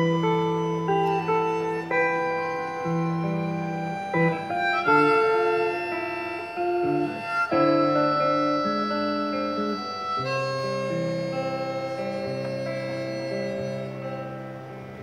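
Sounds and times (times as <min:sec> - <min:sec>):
acoustic guitar accompaniment: 0:00.0 - 0:15.0
harmonica playing: 0:00.0 - 0:15.0.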